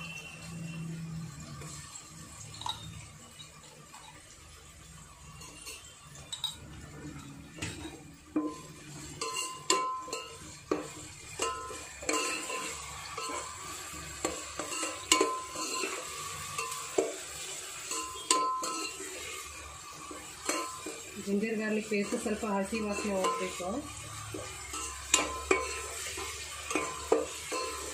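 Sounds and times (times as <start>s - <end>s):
light sizzle of frying: 0.0s - 27.9s.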